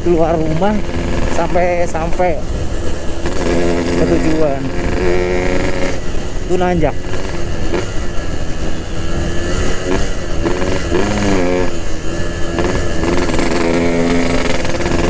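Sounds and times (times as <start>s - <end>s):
motorcycle engine running: 0.0s - 15.0s
wind rumble: 0.0s - 15.0s.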